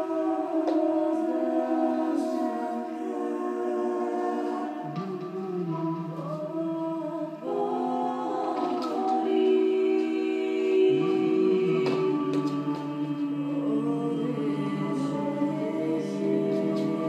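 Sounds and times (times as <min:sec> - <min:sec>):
slow woodwind melody: 0:00.0 - 0:17.0.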